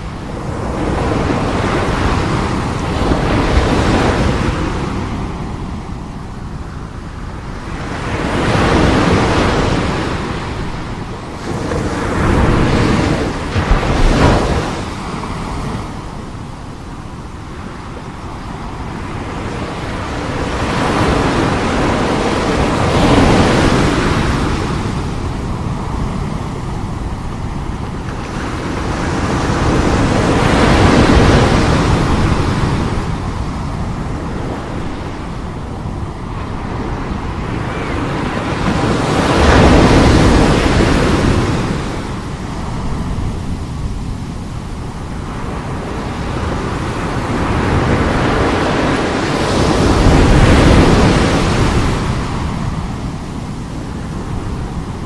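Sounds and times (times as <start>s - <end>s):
sea waves crashing: 0.0s - 55.0s.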